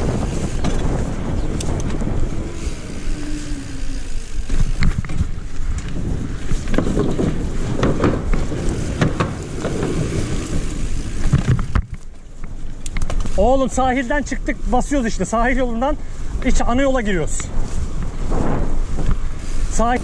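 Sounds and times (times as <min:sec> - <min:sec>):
bike rattling and knocking: 0:00.0 - 0:15.8, 0:16.4 - 0:20.0
bike tyre noise: 0:00.0 - 0:20.0
wind rushing over microphone: 0:00.0 - 0:20.0.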